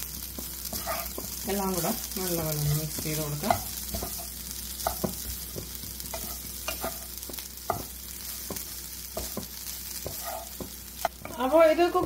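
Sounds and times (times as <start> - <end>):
vegetables sizzling in a pan: 0.0 - 12.0
spatula scraping and knocking pan: 0.1 - 12.0.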